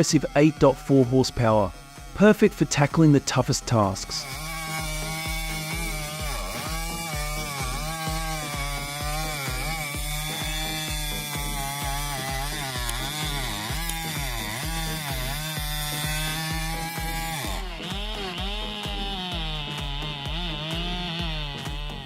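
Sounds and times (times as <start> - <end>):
background music with steady beat: 0.0 - 22.0
chainsaw cutting wood: 0.0 - 22.0.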